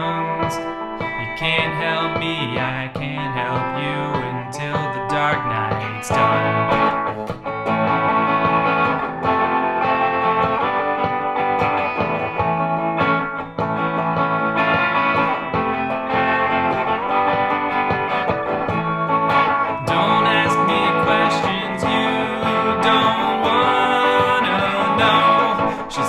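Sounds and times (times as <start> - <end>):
instrumental guitar music: 0.0 - 26.0.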